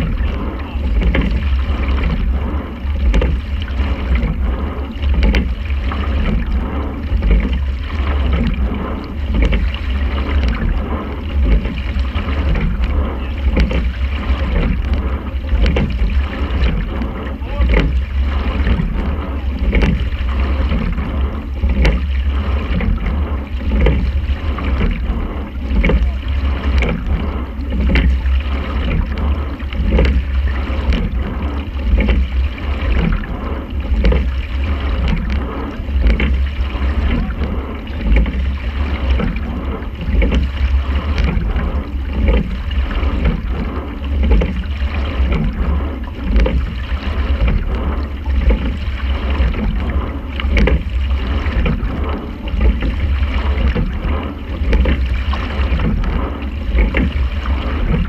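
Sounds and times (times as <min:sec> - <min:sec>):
oar strokes knocking and surging water: 0:00.0 - 0:58.0
water rushing past hull: 0:00.0 - 0:58.0
wind rumble on microphone: 0:00.0 - 0:58.0.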